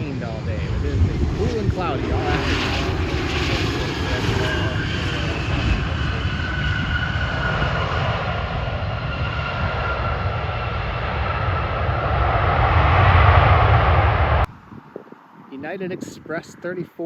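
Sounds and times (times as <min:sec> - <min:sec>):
jet engines whining: 0:00.0 - 0:17.0
low rumble of passing plane: 0:00.0 - 0:17.0.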